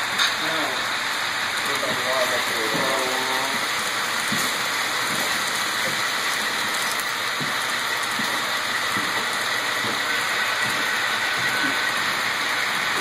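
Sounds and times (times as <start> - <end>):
model train wheels on rails: 1.6 - 13.0.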